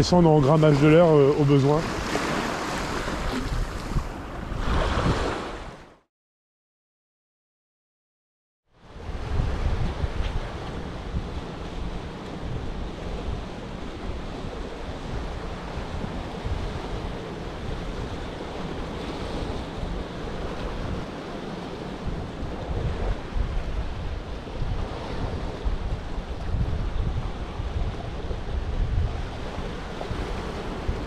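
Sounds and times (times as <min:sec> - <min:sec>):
sea surf washing on shore: 0:00.0 - 0:05.8, 0:08.9 - 0:31.0
wind gusting on microphone: 0:00.0 - 0:05.9, 0:08.8 - 0:31.0.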